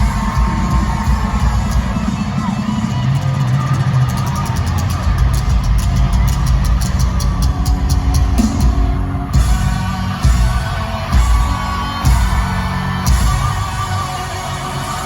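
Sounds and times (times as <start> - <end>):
live rock band instrumental: 0.0 - 15.0.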